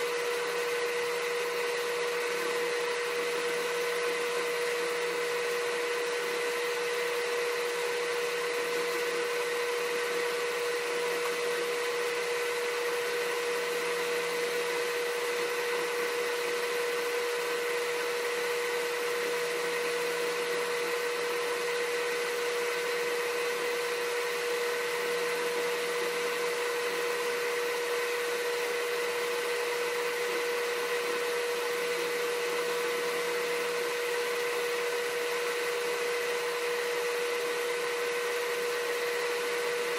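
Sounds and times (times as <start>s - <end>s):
small electric motor humming: 0.0s - 39.9s.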